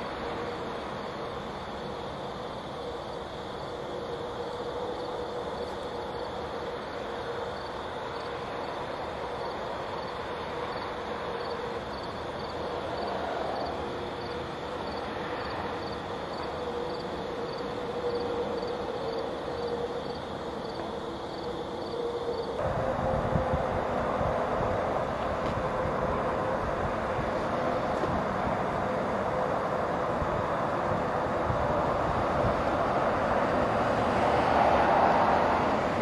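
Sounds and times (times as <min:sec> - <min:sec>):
cricket chirping faintly: 0:00.0 - 0:36.0
steady hum and noise: 0:00.0 - 0:36.0.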